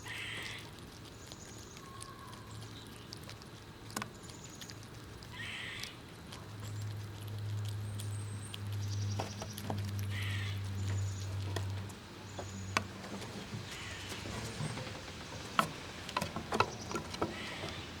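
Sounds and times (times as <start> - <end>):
squirrels cracking nut shells: 0.0 - 18.0.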